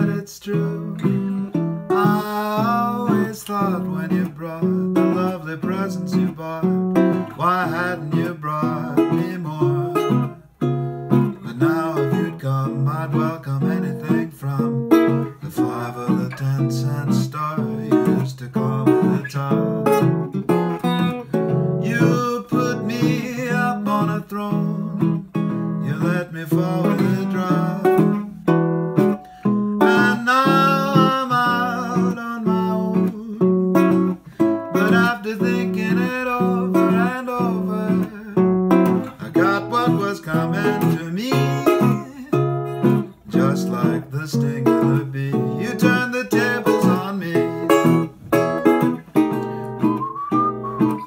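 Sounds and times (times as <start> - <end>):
resonator guitar fingerstyle: 0.0 - 51.0.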